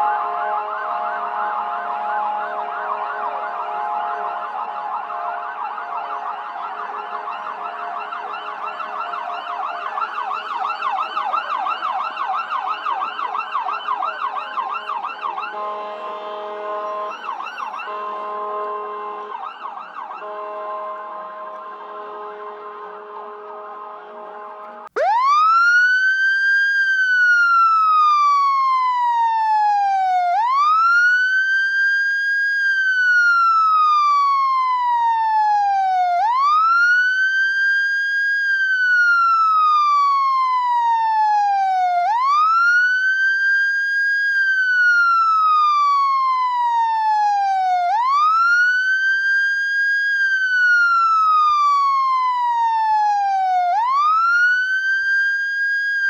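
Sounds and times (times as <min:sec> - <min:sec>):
electronic police siren wailing: 0:00.0 - 0:15.6, 0:16.2 - 0:18.1, 0:19.3 - 0:20.4, 0:24.9 - 0:56.0.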